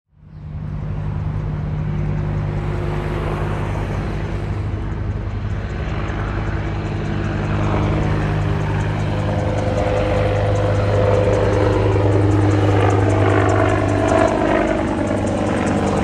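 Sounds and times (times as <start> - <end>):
helicopter flying by: 0.1 - 16.0.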